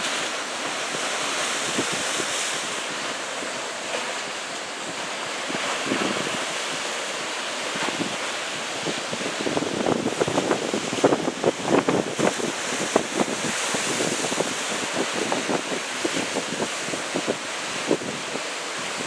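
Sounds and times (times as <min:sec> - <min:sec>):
ocean surf breaking: 0:00.0 - 0:19.0
wind buffeting microphone: 0:00.8 - 0:03.1, 0:04.6 - 0:06.9, 0:07.8 - 0:19.0.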